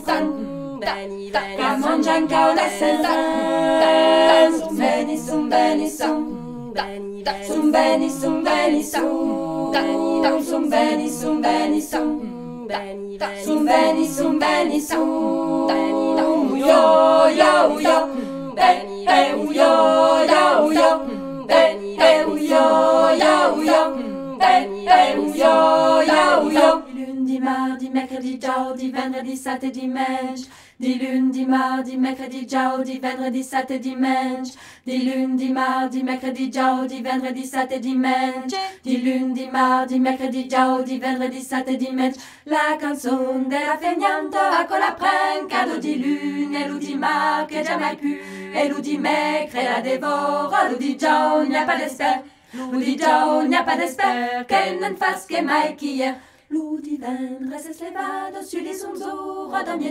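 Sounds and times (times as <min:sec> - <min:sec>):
a cappella voices singing in harmony: 0:00.0 - 0:59.9.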